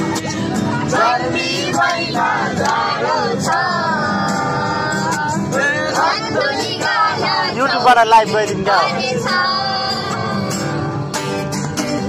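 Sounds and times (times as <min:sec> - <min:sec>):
people singing loudly together: 0:00.0 - 0:11.5
strummed acoustic guitar: 0:00.0 - 0:12.0.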